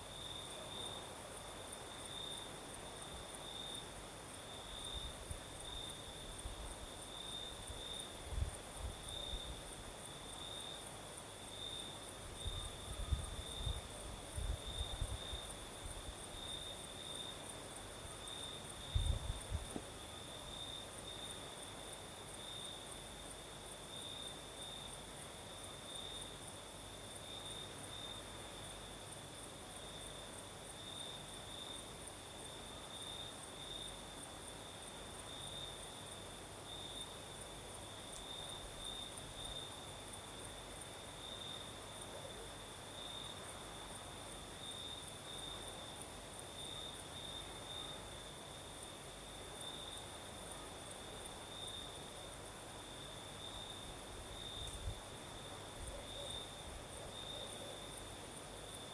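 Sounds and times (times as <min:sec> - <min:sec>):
crickets trilling: 0:04.5 - 0:58.9.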